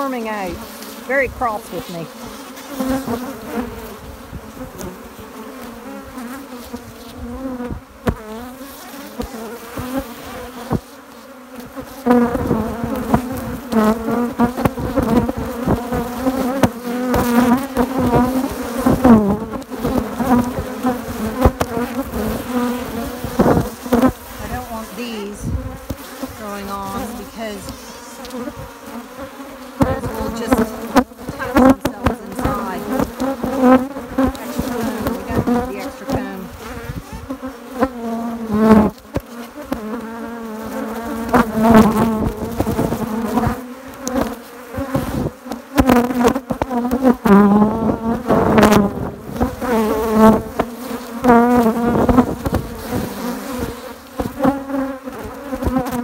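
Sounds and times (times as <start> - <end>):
bees buzzing: 0.0 - 56.0
single bees flying past: 0.0 - 56.0.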